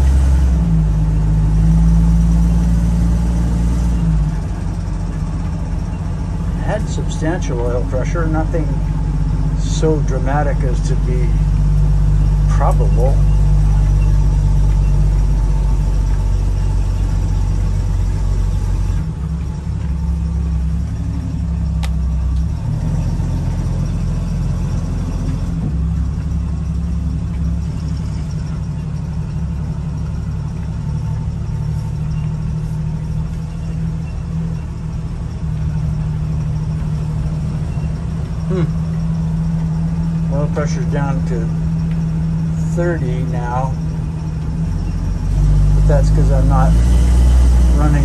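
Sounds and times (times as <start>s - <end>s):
car engine running: 0.0s - 48.0s.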